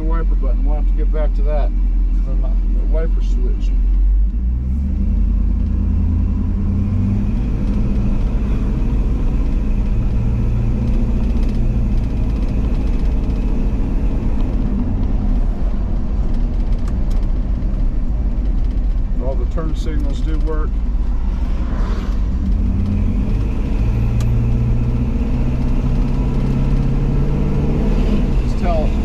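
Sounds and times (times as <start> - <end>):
engine low rumble from inside cab: 0.0 - 29.0
road noise: 0.0 - 29.0.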